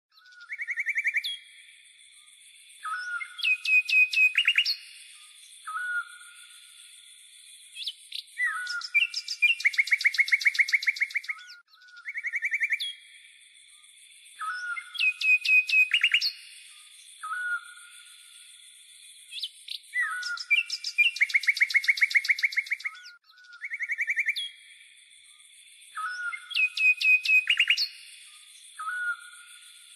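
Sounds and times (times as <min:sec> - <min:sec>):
songbird trills and whistles: 0:00.1 - 0:29.9.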